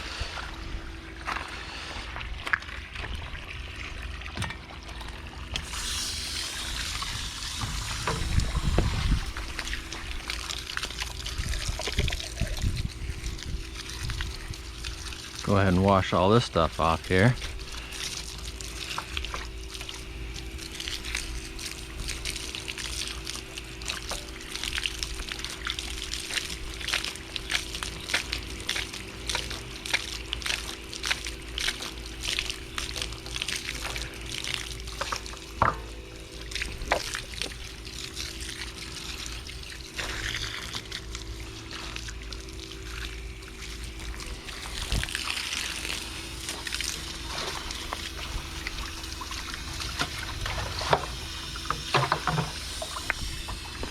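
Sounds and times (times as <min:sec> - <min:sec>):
steady hum: 0:00.0 - 0:53.9
pressure washer water spraying: 0:05.6 - 0:53.9.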